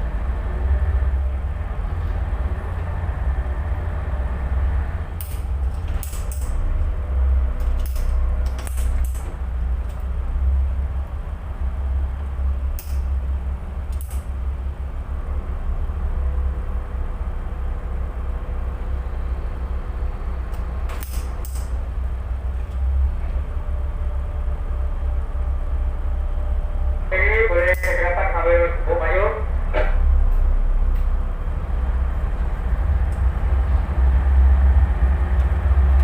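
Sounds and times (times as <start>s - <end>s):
boat diesel engines droning: 0.0s - 36.0s.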